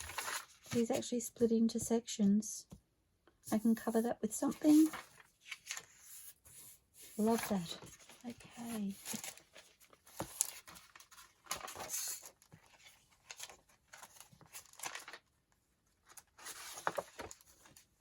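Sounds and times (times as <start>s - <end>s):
paper rustling and crackling: 0.0s - 1.1s, 3.9s - 18.0s.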